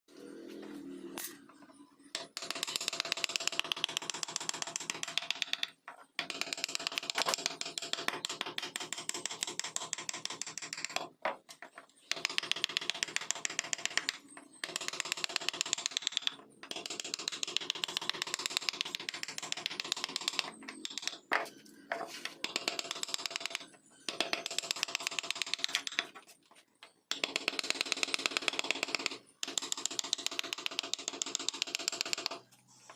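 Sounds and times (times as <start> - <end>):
carving tool ticking and scraping wood: 2.2 - 32.9.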